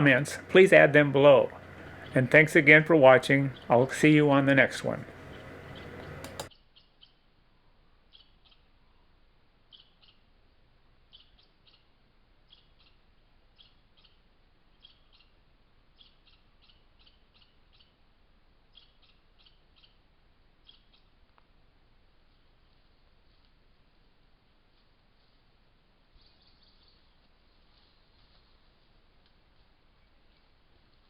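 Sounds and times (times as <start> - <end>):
bird chirping: 0.0 - 7.3, 8.0 - 21.2, 26.0 - 30.8.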